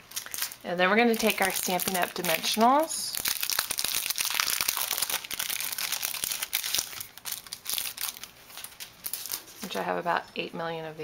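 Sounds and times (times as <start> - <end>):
plastic packet crinkling: 0.0 - 9.8.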